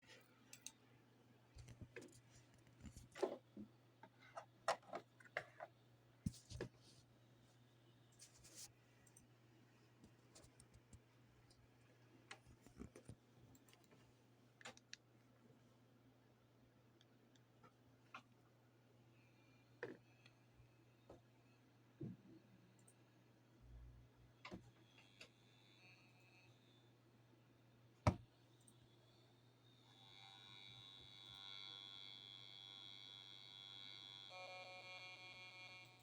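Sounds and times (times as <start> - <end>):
faint electrical hum: 0.0 - 36.0.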